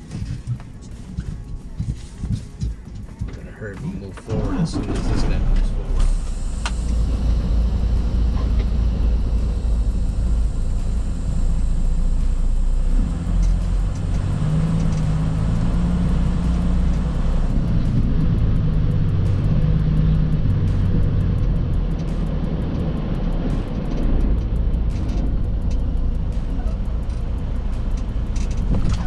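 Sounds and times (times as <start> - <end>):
steady engine hum: 0.0 - 29.0
truck engine rumbling: 0.0 - 29.0.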